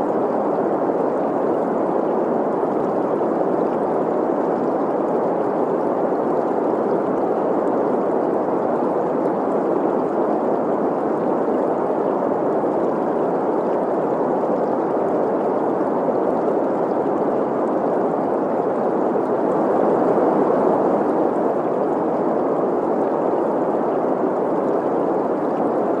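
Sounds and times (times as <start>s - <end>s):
stream running: 0.0s - 26.0s.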